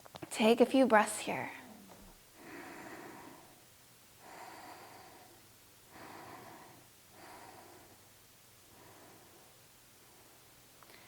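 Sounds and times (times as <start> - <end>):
slow breathing: 1.7 - 11.0.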